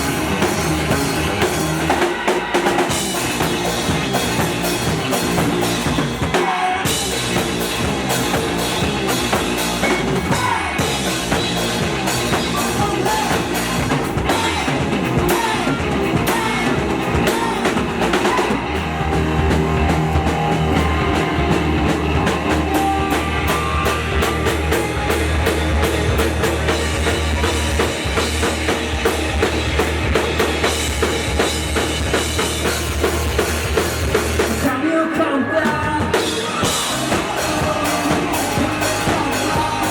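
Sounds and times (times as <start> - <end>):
drum kit beat: 0.0 - 34.8, 35.6 - 39.9
live rock band playing: 0.0 - 39.9.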